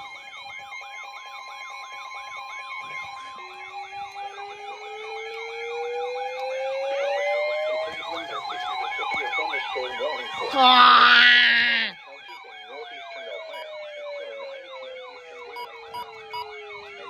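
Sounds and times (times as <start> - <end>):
siren fast yelp: 0.0 - 17.0
siren slow wail: 0.0 - 17.0.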